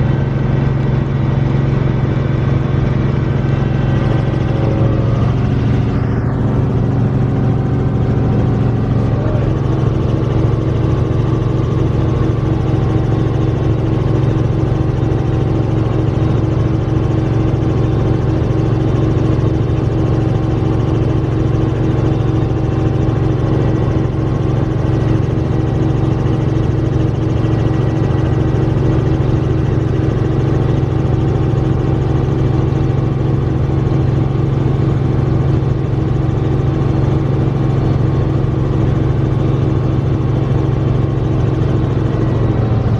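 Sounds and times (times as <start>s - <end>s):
helicopter engine and rotors: 0.0s - 42.9s.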